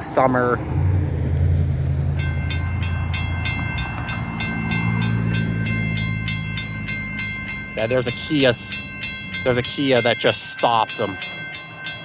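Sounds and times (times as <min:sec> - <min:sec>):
low engine rumble: 0:00.0 - 0:12.0
railroad crossing bell ringing: 0:00.2 - 0:12.0.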